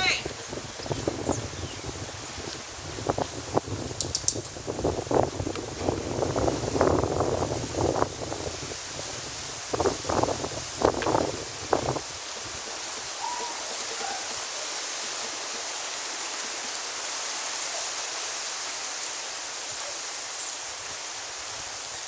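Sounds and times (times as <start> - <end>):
wind hissing: 0.0 - 22.0.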